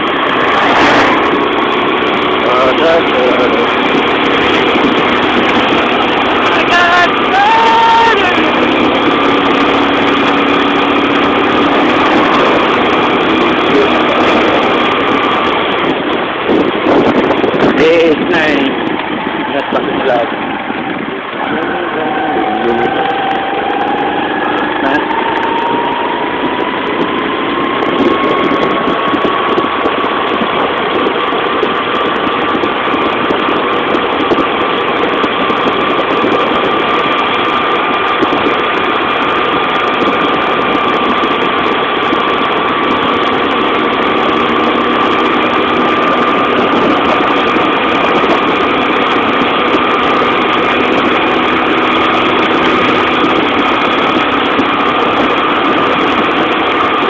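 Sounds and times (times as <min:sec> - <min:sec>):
road noise rushing: 0:00.0 - 0:57.0
vehicle engine whine: 0:00.0 - 0:57.0.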